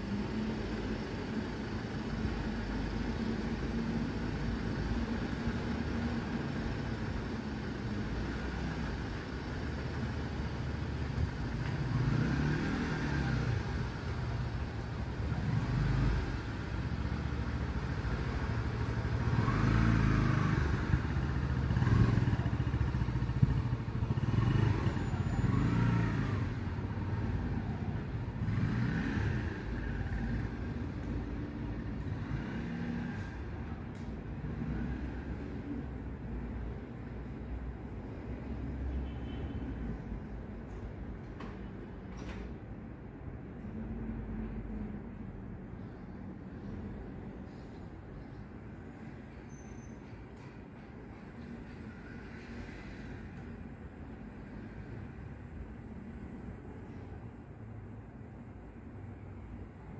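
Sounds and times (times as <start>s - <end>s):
low traffic rumble: 0.0s - 59.9s
vehicles passing: 0.0s - 59.9s.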